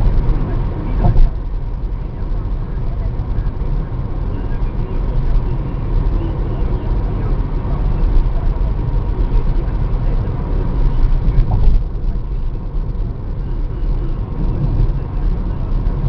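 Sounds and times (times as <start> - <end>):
car driving at speed: 0.0 - 16.0.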